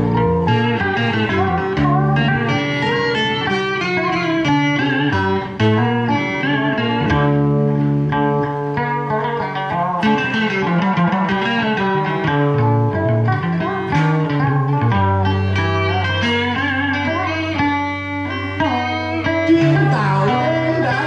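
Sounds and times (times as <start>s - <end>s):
string duo playing instrumental: 0.0s - 21.0s.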